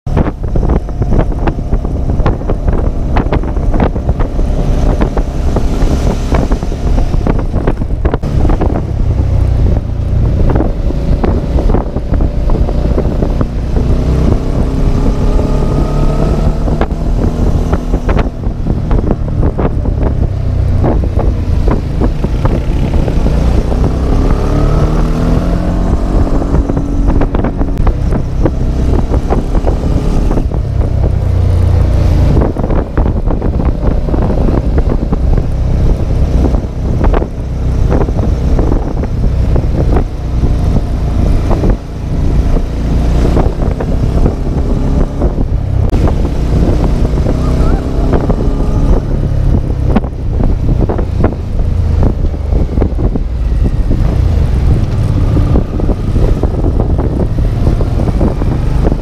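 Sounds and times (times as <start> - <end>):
motorcycle engine accelerating: 0.0 - 59.0
wind buffeting microphone: 0.1 - 59.0.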